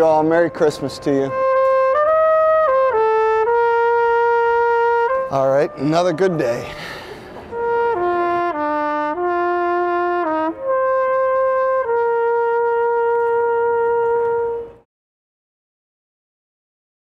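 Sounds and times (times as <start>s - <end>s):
solo trumpet playing: 0.0s - 14.9s.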